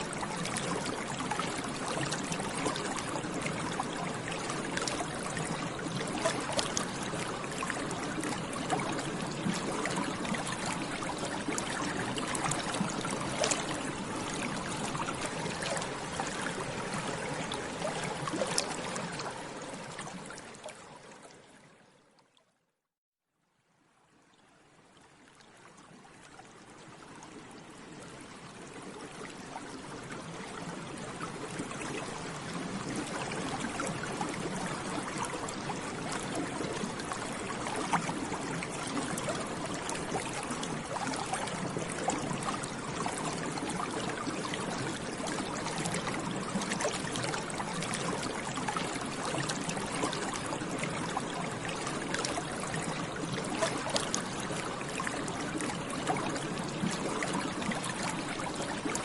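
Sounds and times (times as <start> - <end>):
water bubbling: 0.0 - 21.1, 30.4 - 59.0.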